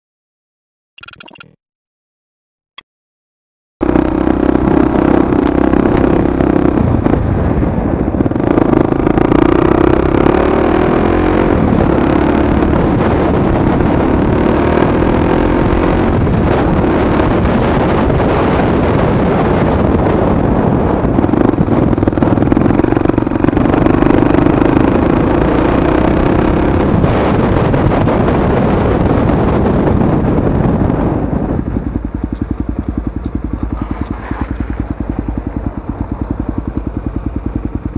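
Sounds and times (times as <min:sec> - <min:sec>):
motorcycle engine running: 0:03.8 - 0:37.9
wind buffeting microphone: 0:03.8 - 0:37.9.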